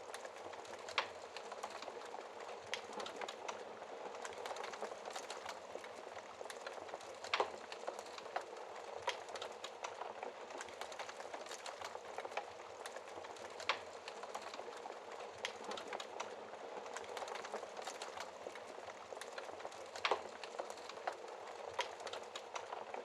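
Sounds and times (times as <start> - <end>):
wood fire hissing and crackling: 0.0 - 23.0.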